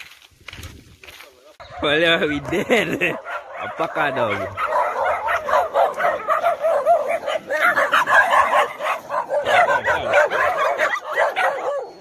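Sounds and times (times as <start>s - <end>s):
dogs barking and yipping: 1.3s - 12.0s.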